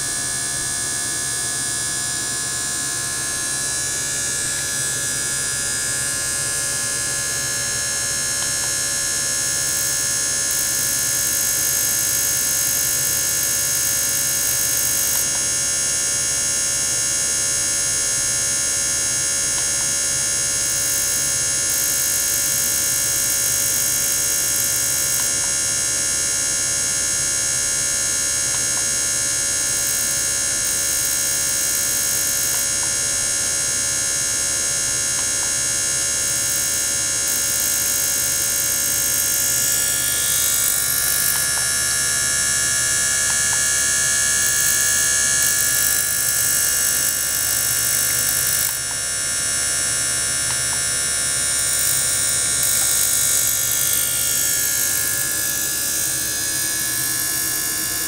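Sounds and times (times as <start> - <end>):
electric whine and buzz: 0.0 - 58.0.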